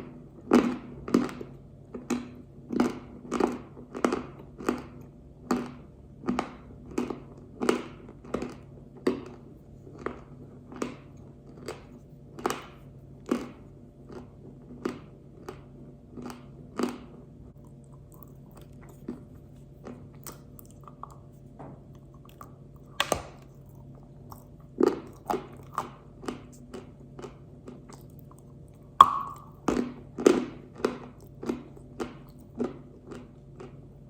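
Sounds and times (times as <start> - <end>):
crunchy chewing: 0.5 - 34.0.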